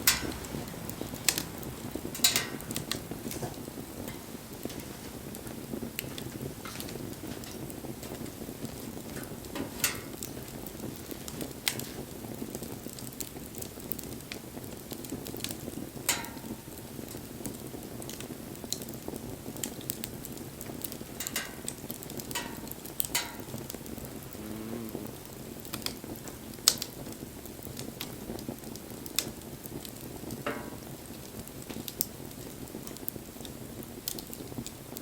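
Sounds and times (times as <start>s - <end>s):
bonfire flame rushing: 0.0s - 35.0s
fire crackling: 0.0s - 35.0s
sharp fire pops: 0.0s - 35.0s.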